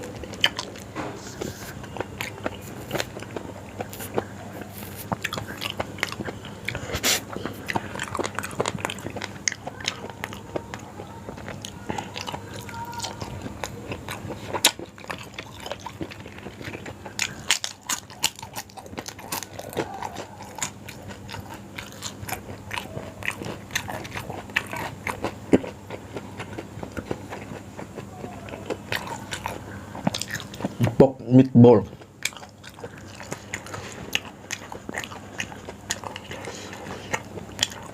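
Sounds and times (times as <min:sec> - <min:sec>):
wet chewing and biting: 0:00.0 - 0:31.0, 0:31.9 - 0:37.9.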